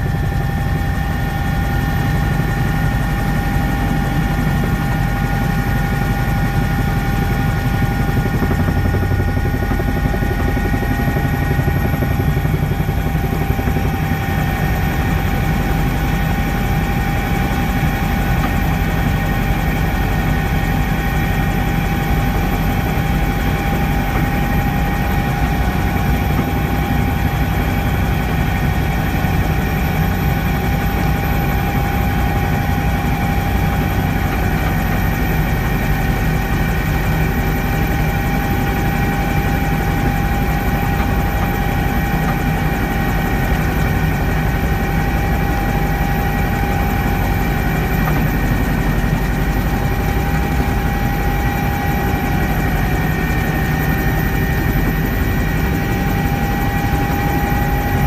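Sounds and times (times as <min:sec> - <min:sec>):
helicopter in flight: 0:00.0 - 0:58.0.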